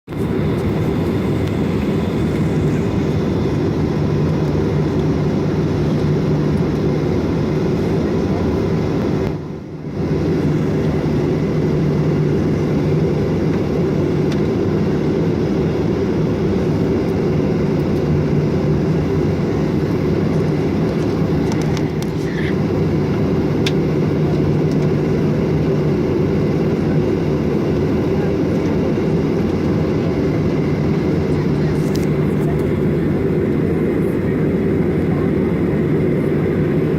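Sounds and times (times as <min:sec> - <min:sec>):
jet engine rumble in cabin: 0:00.1 - 0:36.9.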